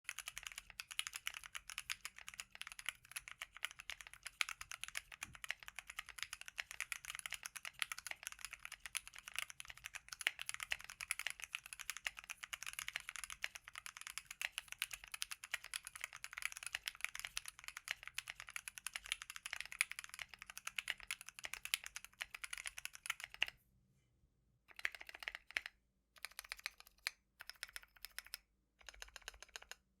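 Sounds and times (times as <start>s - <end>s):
mechanical keyboard typing: 0.1s - 23.5s, 24.7s - 30.0s.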